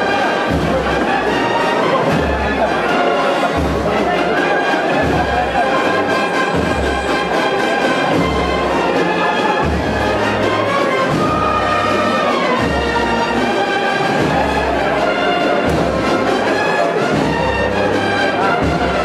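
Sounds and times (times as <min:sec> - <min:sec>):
band playing slow march: 0:00.0 - 0:19.0.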